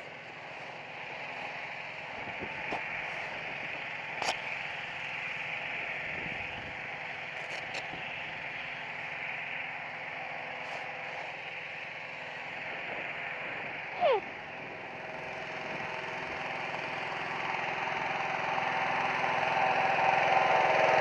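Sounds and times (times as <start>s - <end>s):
engine-driven fan blowing air: 0.0s - 21.0s.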